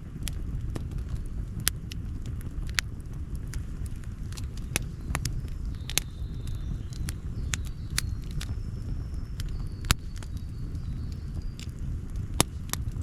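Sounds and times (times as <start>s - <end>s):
low rumble of fire: 0.0s - 13.0s
wood crackling and popping: 0.0s - 13.0s.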